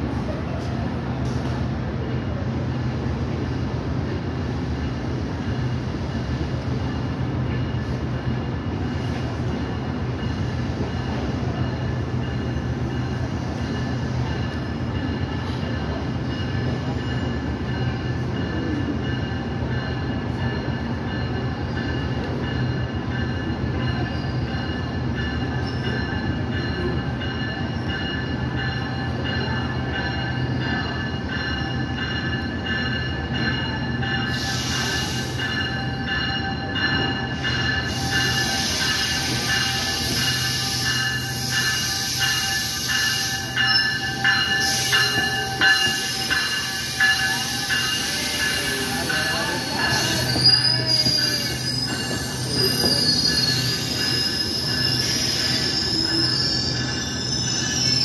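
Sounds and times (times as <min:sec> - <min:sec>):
train rumble with high tone: 0:00.0 - 0:58.0
train wheels clacking: 0:04.0 - 0:58.0.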